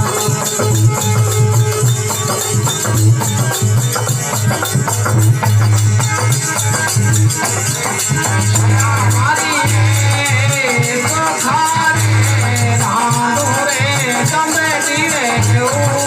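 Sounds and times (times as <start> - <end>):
instrumental melody: 0.0 - 16.0
steady percussion: 0.0 - 16.0.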